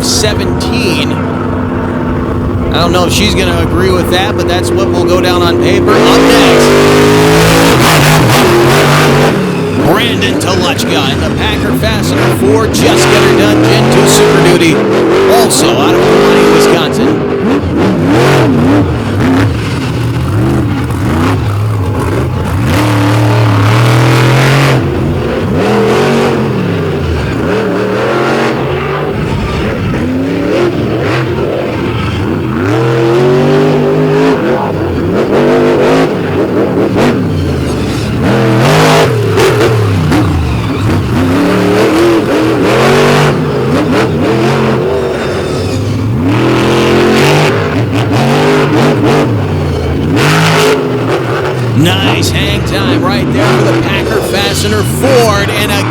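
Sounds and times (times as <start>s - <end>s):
monster truck engine revving: 0.0s - 55.9s.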